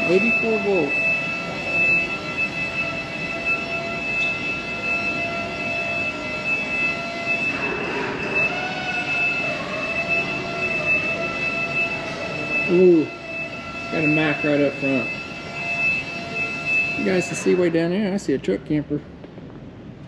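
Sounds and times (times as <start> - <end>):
high-pitched whining tones: 0.0 - 18.2.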